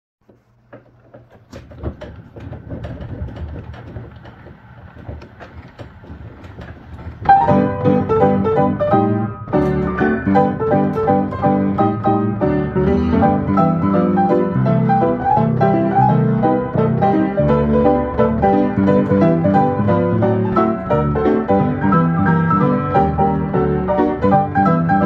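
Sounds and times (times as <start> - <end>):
lively player piano music: 1.3 - 25.0.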